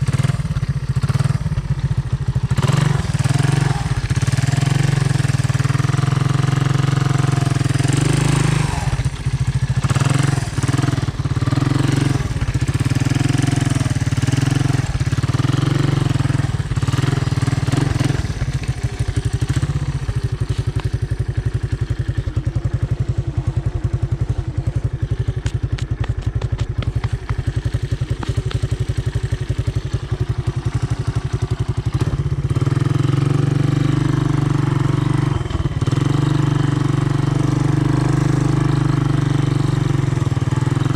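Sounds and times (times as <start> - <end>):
three-wheeler engine revving: 0.0 - 40.9.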